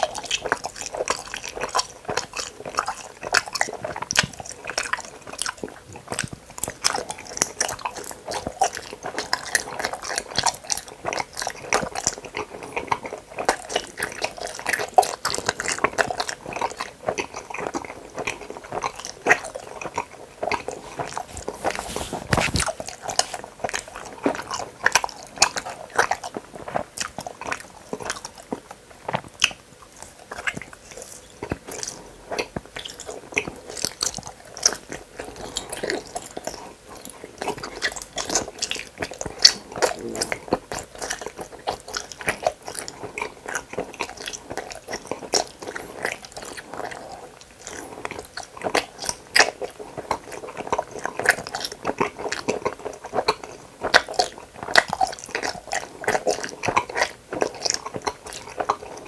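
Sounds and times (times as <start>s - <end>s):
chewing gummy candies: 0.0s - 59.0s.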